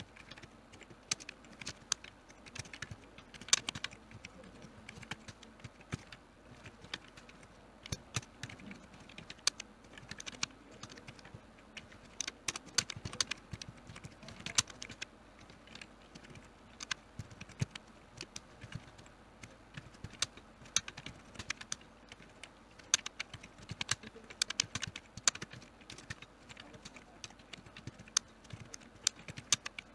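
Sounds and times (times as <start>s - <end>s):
computer keyboard typing: 0.0s - 29.9s.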